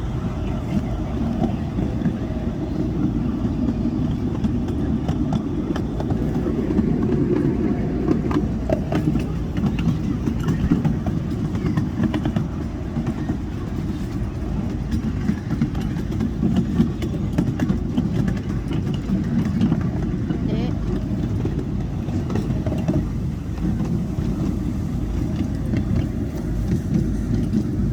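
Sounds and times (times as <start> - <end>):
miniature train rumbling: 0.0 - 27.9
wheels clicking over rail joints: 0.0 - 27.9.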